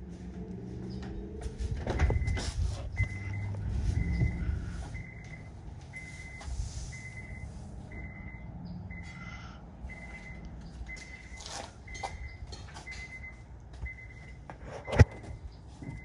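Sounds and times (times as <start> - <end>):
electronic warning beeps: 1.9 - 16.0.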